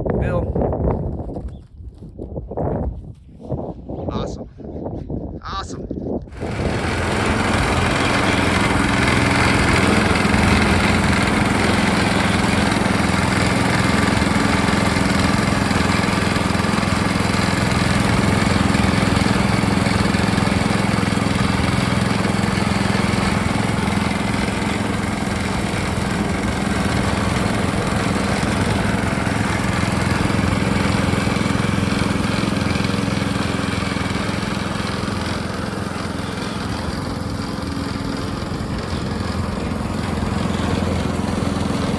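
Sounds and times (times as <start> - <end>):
small gasoline engine running: 6.3 - 41.9.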